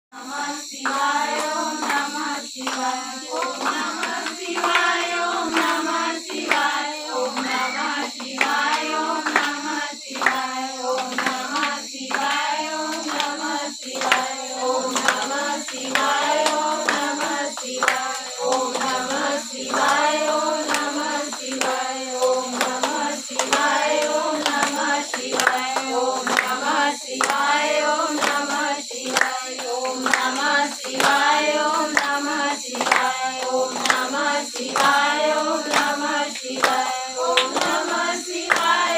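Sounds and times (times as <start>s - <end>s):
women singing devotional song: 0.1s - 38.9s
hand clapping in time: 0.8s - 38.9s.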